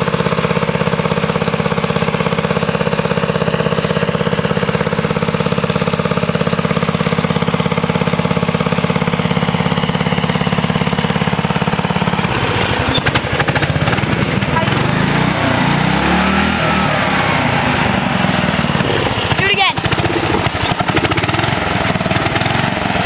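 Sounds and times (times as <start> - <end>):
go-kart engine idling: 0.0 - 23.0.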